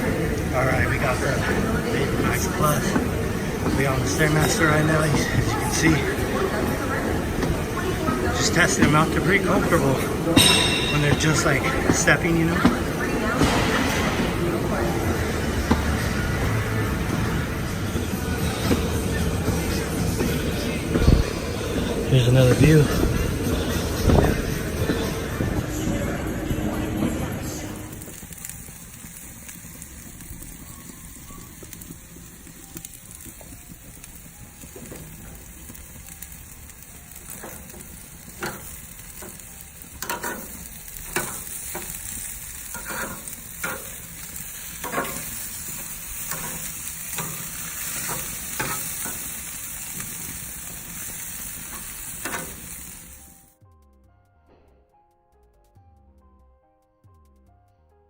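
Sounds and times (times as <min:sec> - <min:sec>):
stair-climber machine hissing: 0:00.0 - 0:53.6
faint music: 0:00.0 - 0:58.0.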